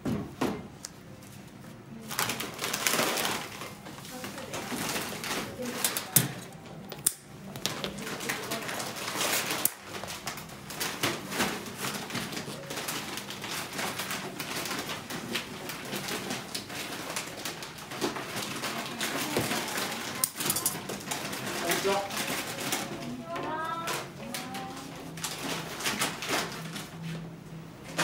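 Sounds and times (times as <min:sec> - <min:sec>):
candy worked on metal table: 0:00.6 - 0:28.0.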